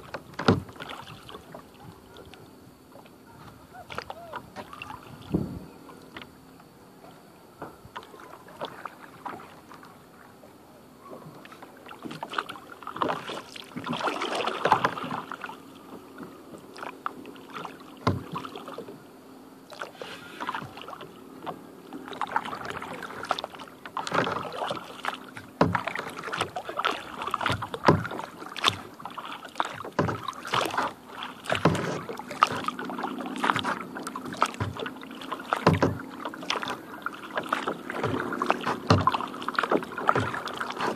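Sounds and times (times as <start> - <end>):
paddle knocks: 0.0 - 6.3, 11.0 - 19.0, 19.7 - 40.9
kayak paddle strokes in water: 0.0 - 40.9.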